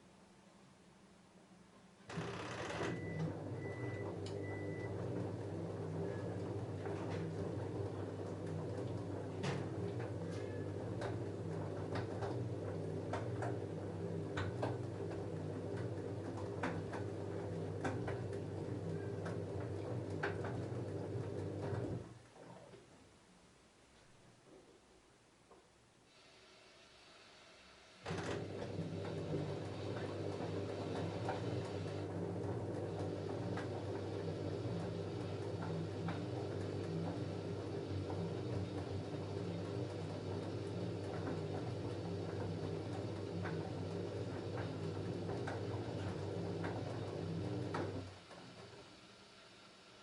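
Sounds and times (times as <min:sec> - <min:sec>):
washing machine motor hum: 0:02.0 - 0:22.8, 0:27.5 - 0:50.0.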